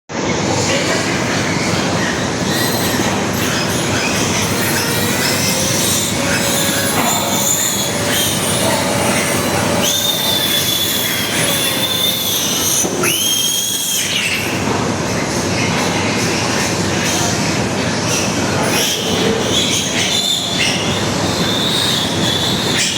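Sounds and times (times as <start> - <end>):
piglet squealing: 0.6 - 14.6, 15.8 - 22.9.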